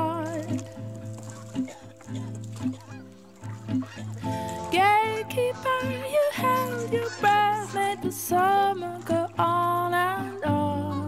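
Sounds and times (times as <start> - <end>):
slow melody of wavering notes: 0.0 - 11.0.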